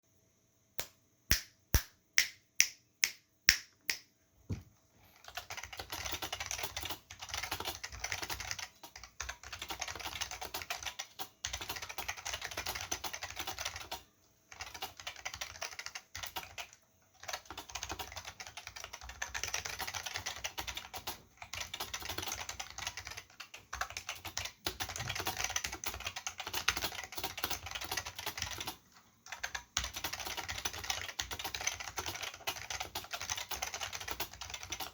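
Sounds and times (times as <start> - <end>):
mechanical keyboard typing: 5.2 - 34.9.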